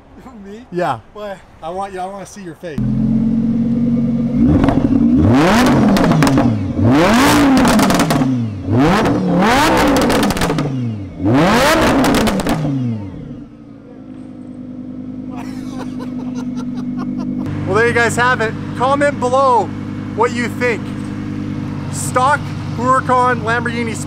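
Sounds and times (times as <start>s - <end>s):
exhaust crackles: 2.7s - 24.0s
sports car engine revving: 2.8s - 24.0s.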